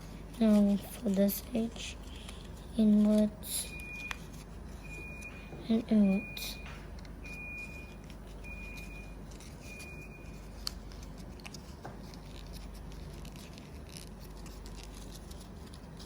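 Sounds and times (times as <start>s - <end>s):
paper rustling and creasing: 0.0s - 4.9s, 7.3s - 16.0s
low steady hum: 0.0s - 16.0s.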